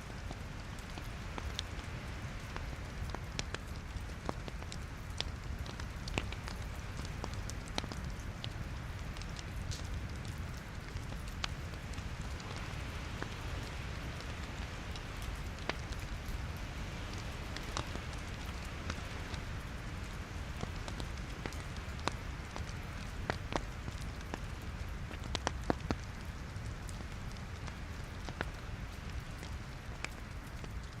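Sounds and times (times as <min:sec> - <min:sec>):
fire crackles and pops: 0:00.0 - 0:31.0
fire rumbling and hissing: 0:00.0 - 0:31.0.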